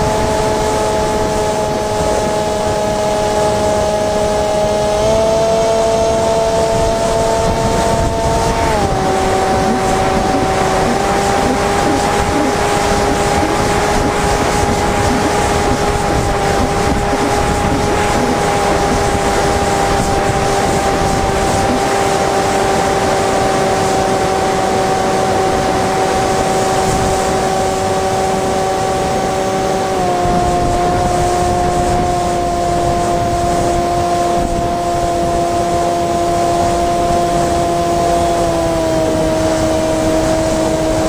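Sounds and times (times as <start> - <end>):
electric motor and propeller whining: 0.0 - 41.0
wind rushing over microphone: 0.0 - 41.0.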